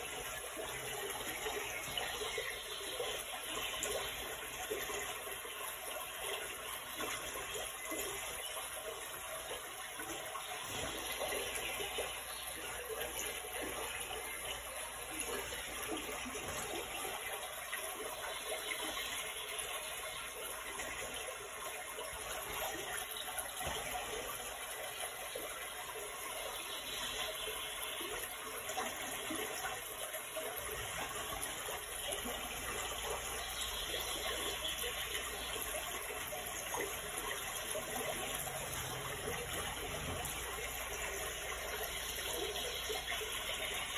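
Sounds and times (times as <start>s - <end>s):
running water: 0.0s - 43.9s.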